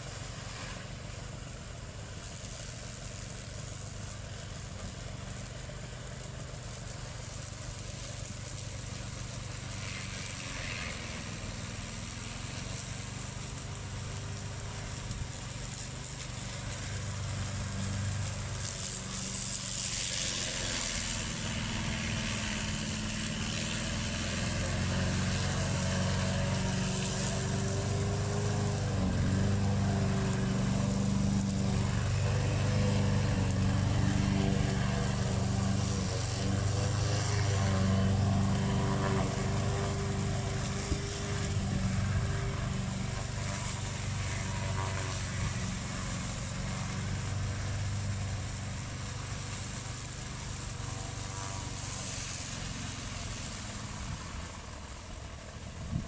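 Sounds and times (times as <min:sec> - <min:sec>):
mower engine running: 0:00.0 - 0:56.0.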